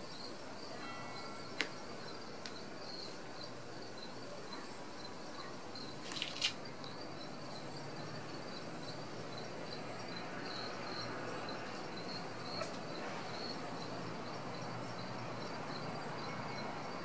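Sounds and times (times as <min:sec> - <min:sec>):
insects chirping trill: 0:00.0 - 0:17.0.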